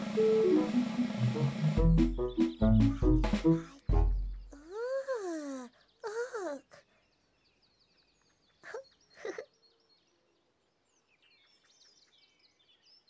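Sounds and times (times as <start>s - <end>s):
faint birdsong chirps: 1.8s - 13.0s.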